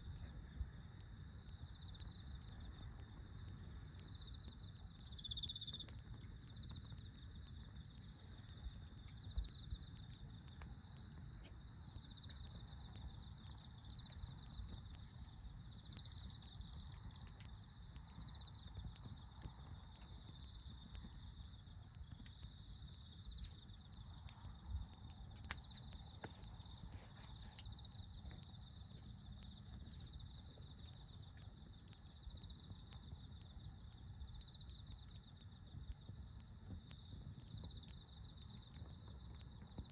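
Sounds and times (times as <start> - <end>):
campfire crackling: 0.0 - 39.9
insects chirring: 0.0 - 39.9.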